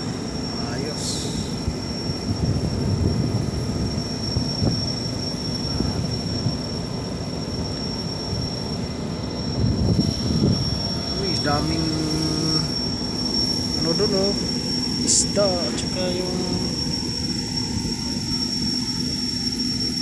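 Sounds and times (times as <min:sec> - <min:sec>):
engine and machinery rumble: 0:00.0 - 0:20.0
high-pitched whine: 0:00.0 - 0:20.0.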